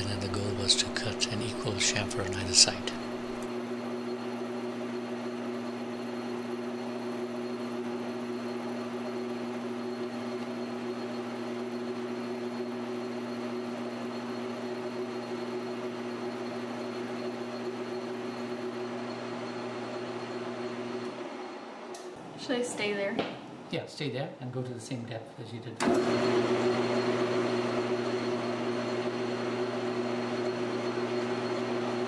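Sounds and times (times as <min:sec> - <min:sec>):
metal lathe humming: 0:00.0 - 0:21.8, 0:25.8 - 0:32.0.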